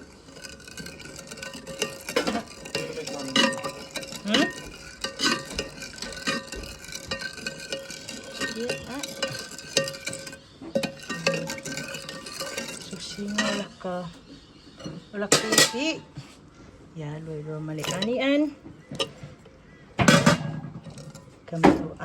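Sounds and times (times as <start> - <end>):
utensil clinking and scraping pan: 0.0 - 16.2, 17.7 - 22.0.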